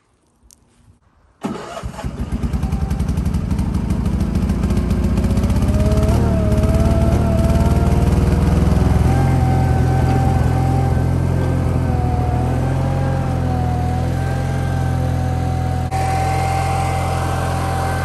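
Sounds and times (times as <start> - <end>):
garden tractor engine starting: 1.4 - 18.0.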